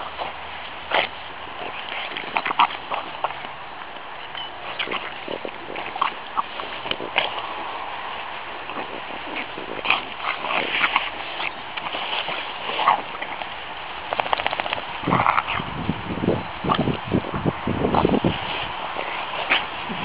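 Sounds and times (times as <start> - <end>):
dog snuffling grunts: 0.0 - 15.7, 17.8 - 20.0
grass rustling under dog: 0.0 - 20.0.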